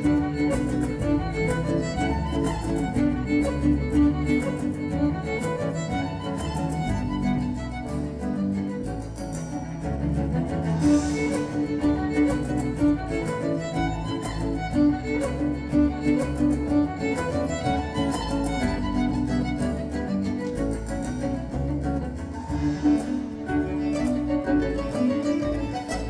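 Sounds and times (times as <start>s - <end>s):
bass: 0.0s - 26.0s
light percussion: 0.0s - 26.0s
violin and cello melody: 0.0s - 26.0s.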